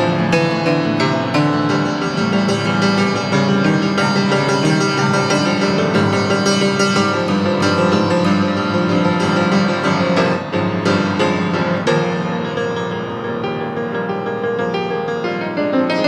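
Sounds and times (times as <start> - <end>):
improvised keyboard music: 0.0 - 16.0.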